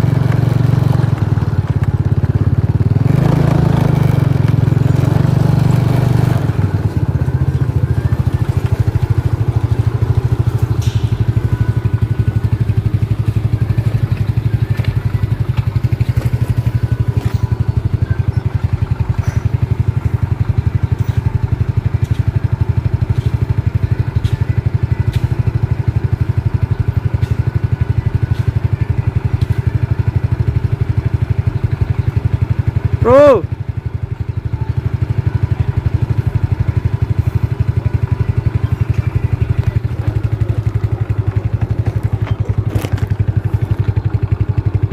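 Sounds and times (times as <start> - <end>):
engine throbbing steadily: 0.0 - 44.9.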